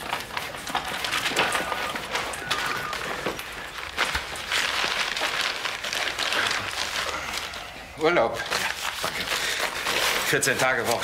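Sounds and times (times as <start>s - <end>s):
footsteps: 0.0s - 11.0s
papers rustling: 0.0s - 11.0s.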